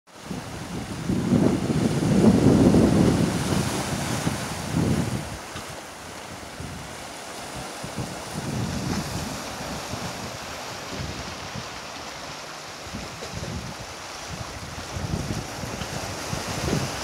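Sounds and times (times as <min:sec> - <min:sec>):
waves washing over rocks: 0:00.2 - 0:17.0
wind buffeting microphone: 0:00.2 - 0:17.0.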